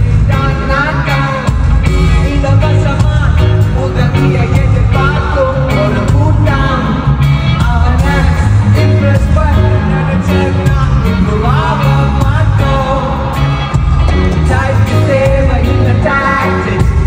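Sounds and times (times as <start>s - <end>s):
live band with heavy bass beat: 0.0s - 17.0s
person singing: 0.0s - 17.0s.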